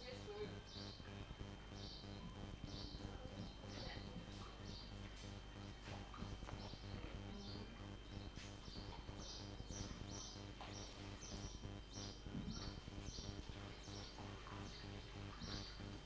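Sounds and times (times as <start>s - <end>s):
low electrical hum: 0.0s - 16.0s
small bird chirping: 0.0s - 16.0s.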